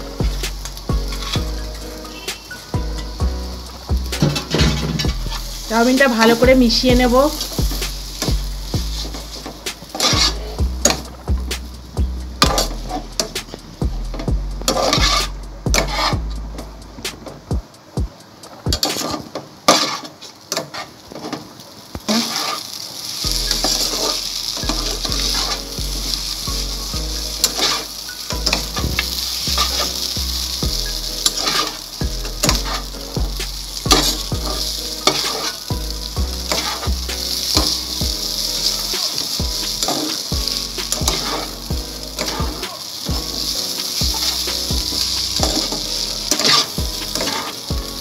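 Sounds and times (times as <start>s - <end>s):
metal spatula scraping a pan: 0.0s - 11.2s, 12.4s - 13.6s, 14.2s - 16.6s, 18.8s - 21.4s, 22.1s - 48.0s
noodles sizzling: 0.0s - 48.0s.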